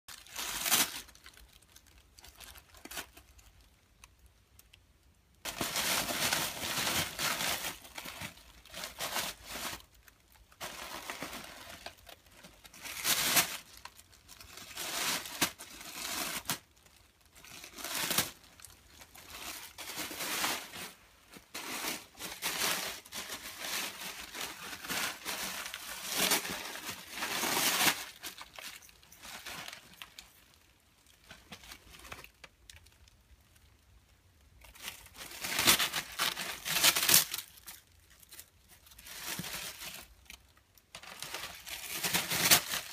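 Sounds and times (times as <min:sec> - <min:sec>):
wrapping paper crinkling: 0:00.1 - 0:04.3, 0:05.4 - 0:33.8, 0:34.6 - 0:42.9.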